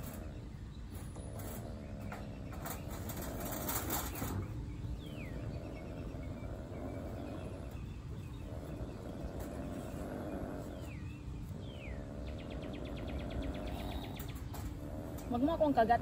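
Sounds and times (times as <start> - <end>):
faint bird chirping: 0.0 - 16.0
low background rumble: 0.0 - 16.0.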